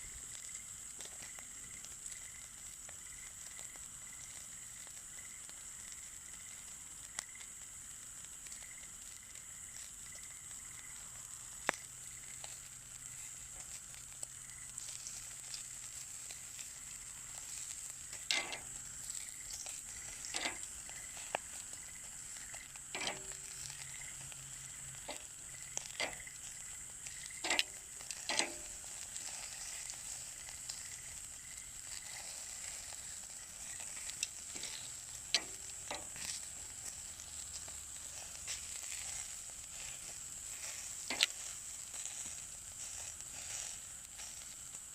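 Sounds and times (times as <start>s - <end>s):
meat sizzling on a grill: 0.0s - 44.9s
wood fire popping and crackling: 0.0s - 44.9s.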